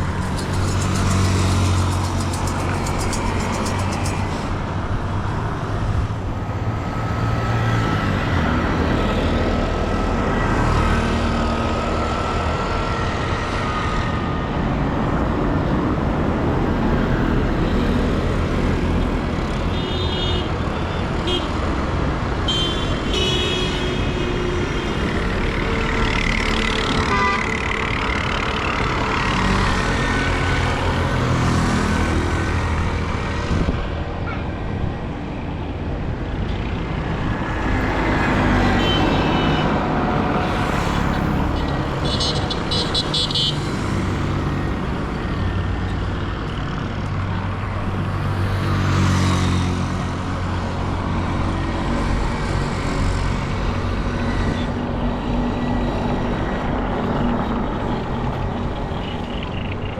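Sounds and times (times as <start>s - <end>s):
vehicle engines running: 0.0s - 19.7s, 23.7s - 59.9s.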